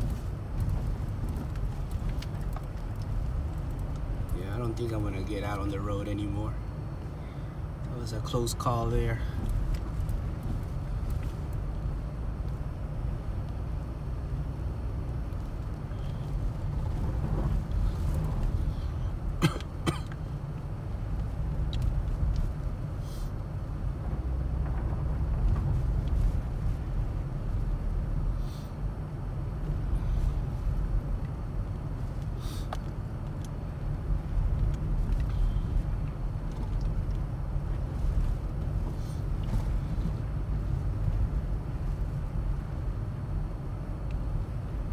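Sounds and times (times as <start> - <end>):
car interior rumble: 0.0 - 44.9.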